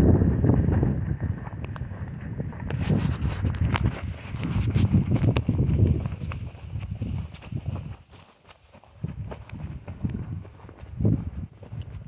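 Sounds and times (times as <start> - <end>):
footsteps on grass: 0.0 - 12.0.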